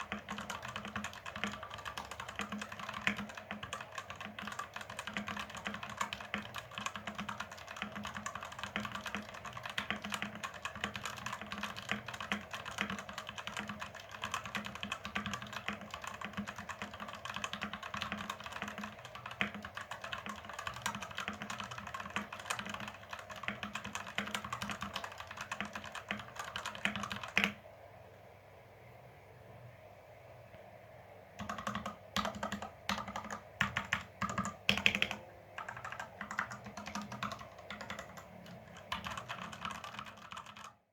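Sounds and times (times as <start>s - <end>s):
mechanical keyboard typing: 0.0s - 27.6s, 31.4s - 40.8s.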